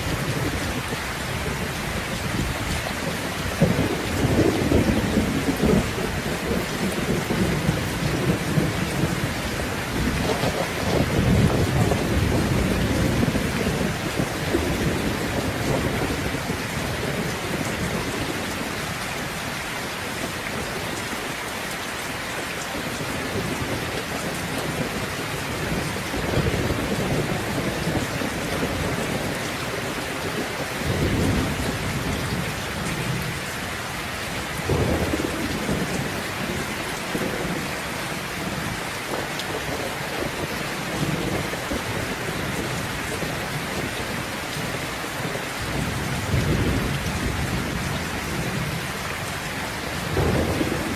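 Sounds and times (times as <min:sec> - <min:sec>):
thunder rumbling: 0:00.0 - 0:21.0, 0:22.7 - 0:50.9
heavy rain: 0:00.0 - 0:50.9.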